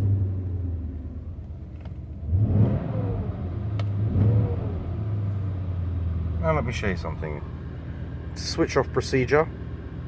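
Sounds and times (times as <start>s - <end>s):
car engine idling and revving: 0.0s - 10.0s.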